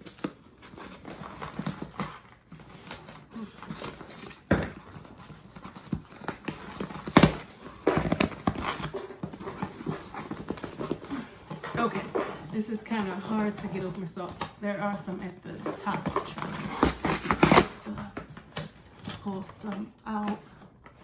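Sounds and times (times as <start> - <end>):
box being worked open by hand: 0.0 - 14.6, 15.6 - 21.0.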